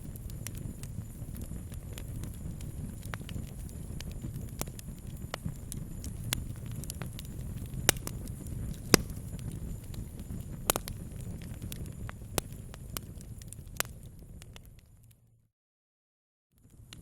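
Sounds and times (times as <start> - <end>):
campfire crackling and popping: 0.0 - 15.2.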